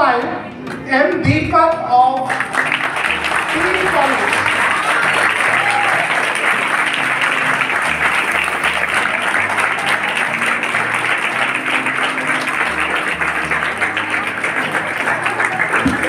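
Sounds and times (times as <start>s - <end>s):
audience applauding: 2.1s - 16.0s.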